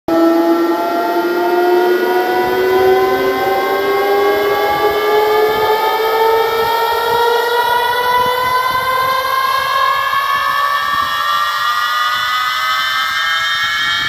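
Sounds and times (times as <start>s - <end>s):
siren-like synth riser: 0.1s - 14.0s.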